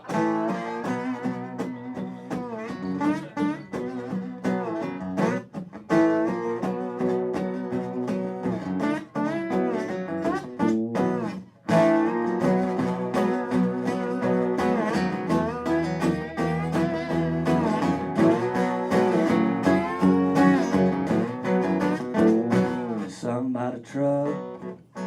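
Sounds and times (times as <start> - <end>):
guitar picked and strummed: 0.0 - 25.0.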